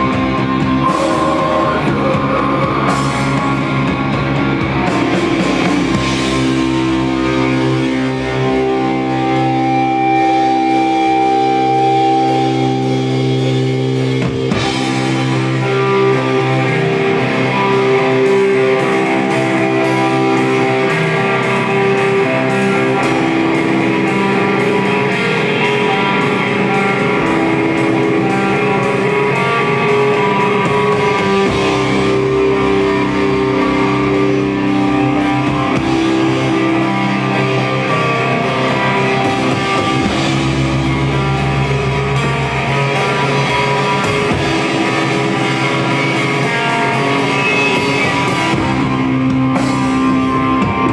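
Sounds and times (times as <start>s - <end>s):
bass guitar: 0.0s - 50.9s
electric guitars sustained chords: 0.0s - 50.9s.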